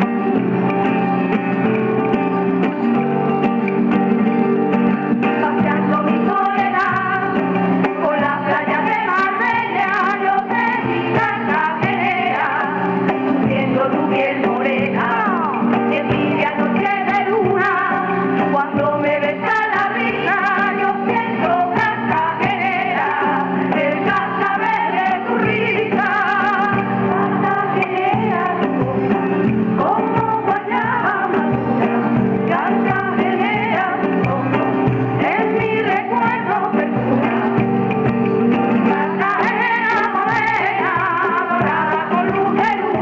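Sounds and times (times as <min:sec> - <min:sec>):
strummed acoustic guitars: 0:00.0 - 0:43.0
women's choir singing: 0:05.4 - 0:29.2, 0:29.8 - 0:37.8, 0:38.8 - 0:43.0.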